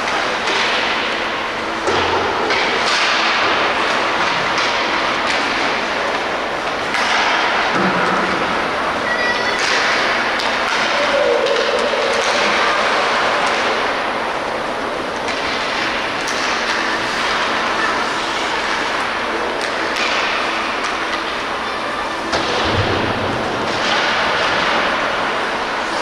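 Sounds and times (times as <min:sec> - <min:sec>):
hockey sticks and puck clacking: 0:00.0 - 0:26.0.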